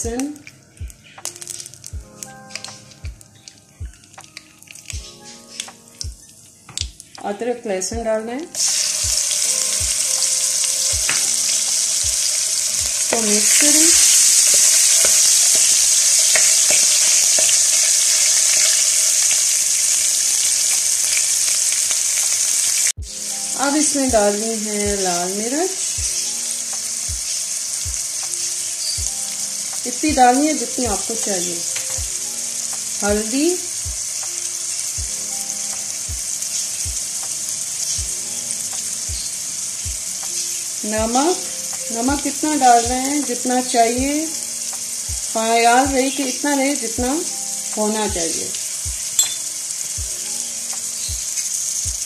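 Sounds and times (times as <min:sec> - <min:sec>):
paste sizzling in hot oil: 0:00.0 - 0:07.2, 0:08.5 - 0:52.0
soft background music: 0:00.0 - 0:52.0.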